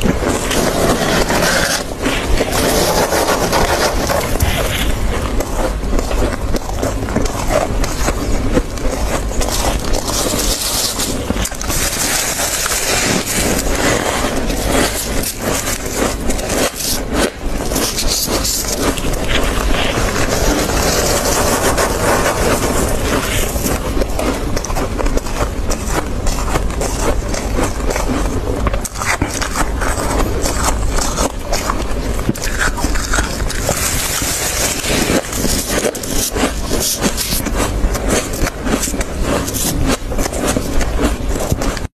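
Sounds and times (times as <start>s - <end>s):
frost crunched between teeth: 0.0s - 41.9s
hand scraping freezer frost: 0.0s - 41.9s.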